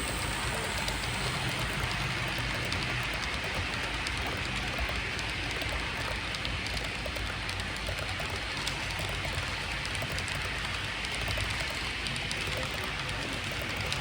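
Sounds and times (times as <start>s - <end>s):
model train whirring: 0.0s - 14.0s
wheels clicking on rails: 0.0s - 14.0s.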